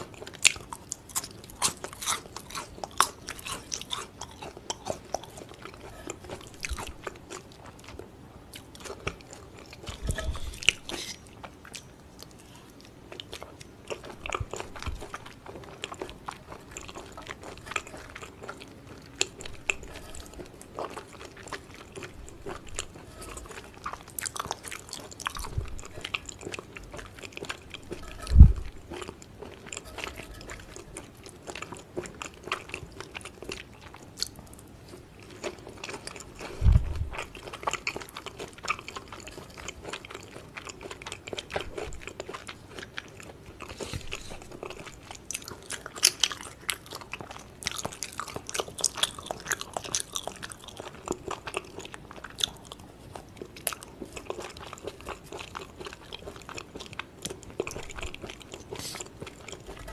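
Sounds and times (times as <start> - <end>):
close-miked chewing: 0.0 - 59.9.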